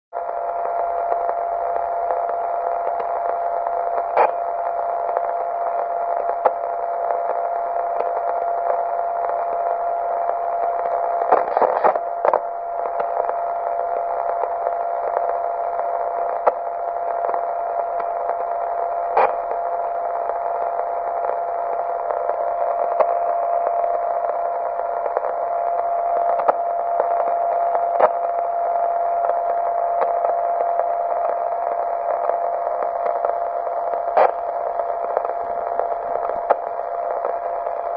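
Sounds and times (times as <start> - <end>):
constant steady tone: 0.1 - 37.9
crackles: 0.1 - 37.9
static hiss: 0.2 - 37.9.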